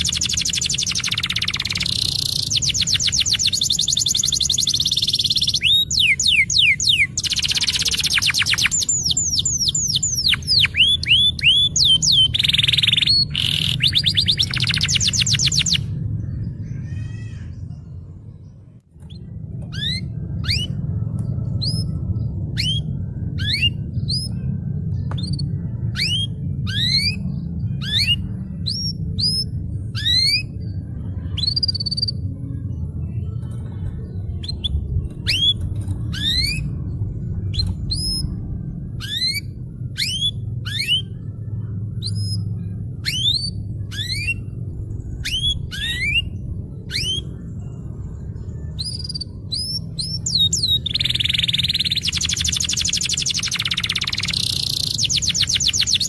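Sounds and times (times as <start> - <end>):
canary singing: 0.0 - 56.0
low background rumble: 0.0 - 56.0.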